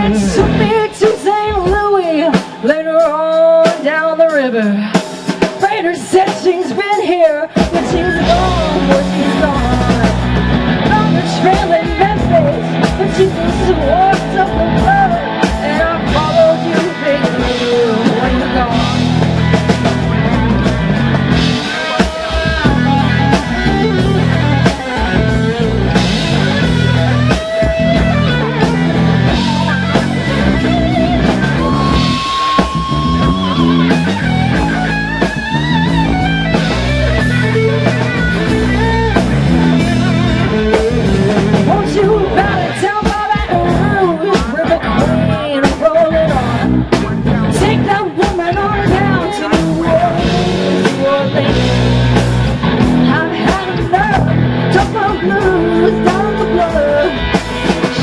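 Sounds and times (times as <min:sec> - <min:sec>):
drum kit: 0:00.0 - 0:58.0
electric bass: 0:00.0 - 0:58.0
electric guitar: 0:00.0 - 0:58.0
person singing: 0:00.0 - 0:58.0.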